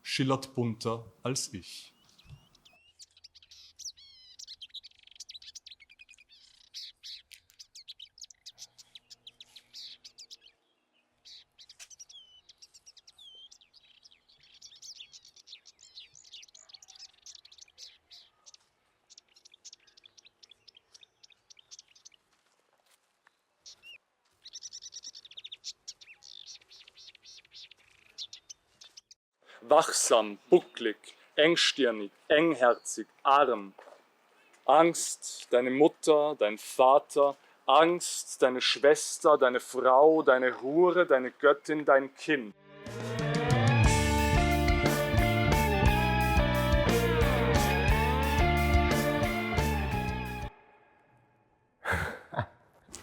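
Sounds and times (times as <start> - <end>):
songbirds chirping and trilling: 0.0 - 42.5, 43.3 - 51.0.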